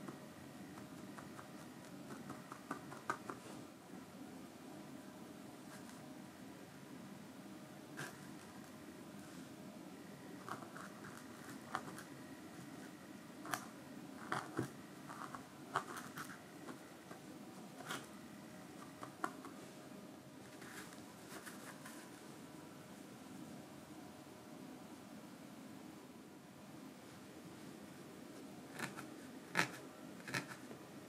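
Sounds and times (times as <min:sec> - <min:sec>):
steady low hiss: 0:00.0 - 0:31.0.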